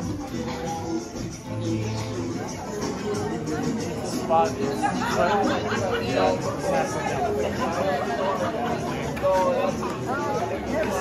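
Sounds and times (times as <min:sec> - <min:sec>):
music with held melodic notes: 0:00.0 - 0:11.0.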